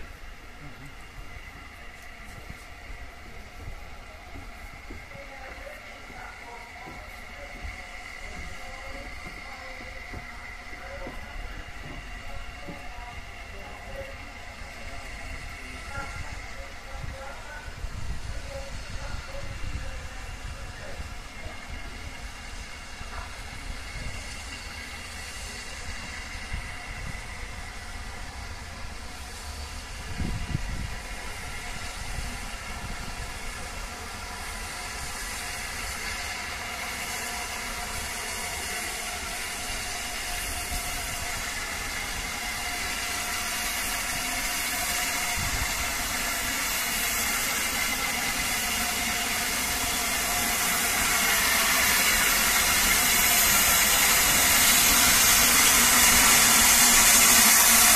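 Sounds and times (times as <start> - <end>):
steam locomotive hissing: 0.0 - 57.9.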